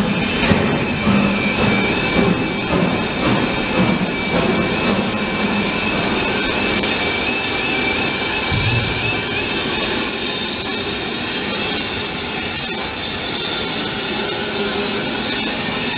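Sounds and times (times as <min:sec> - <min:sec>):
steam locomotive hissing: 0:00.0 - 0:15.9.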